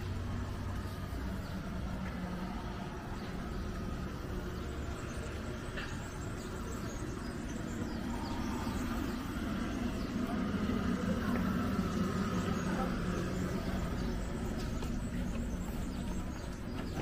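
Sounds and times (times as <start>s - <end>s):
low engine drone: 0.0s - 17.0s
outdoor noise: 0.0s - 17.0s.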